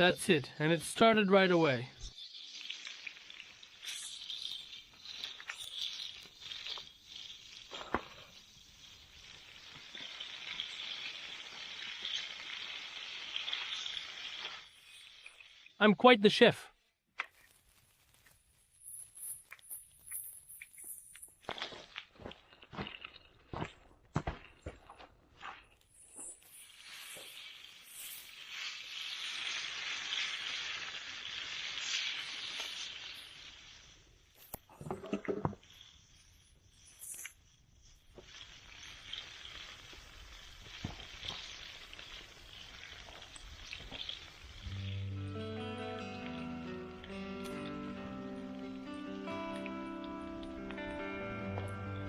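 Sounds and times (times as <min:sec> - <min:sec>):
food sizzling in a pan: 0:01.8 - 0:15.8, 0:17.3 - 0:22.0, 0:25.8 - 0:51.6.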